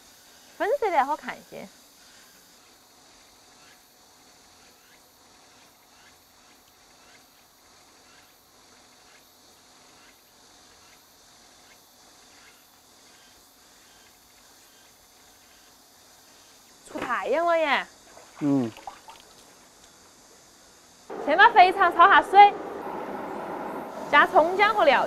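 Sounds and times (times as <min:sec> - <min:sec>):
faint steady hiss: 0:00.0 - 0:22.3.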